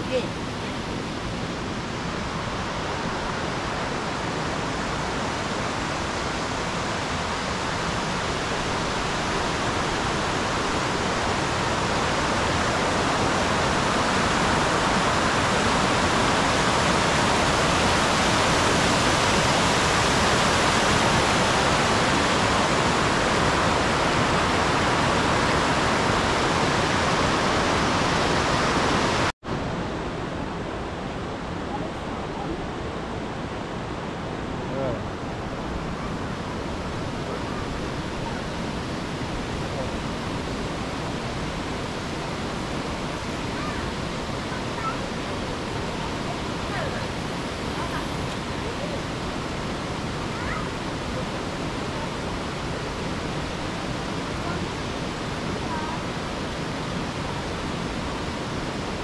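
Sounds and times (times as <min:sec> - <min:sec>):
water rushing over a weir: 0:00.0 - 0:59.0.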